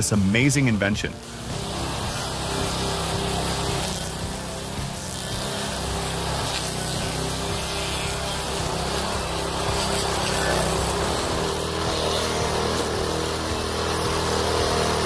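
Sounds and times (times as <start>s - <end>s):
cutter grinding into wood: 0.0s - 15.0s
stump grinder engine hum: 0.0s - 15.0s.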